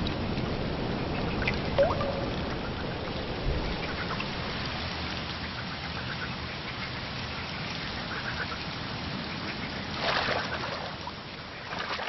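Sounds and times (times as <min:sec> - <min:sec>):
water splashing: 0:01.0 - 0:08.5, 0:09.6 - 0:12.0.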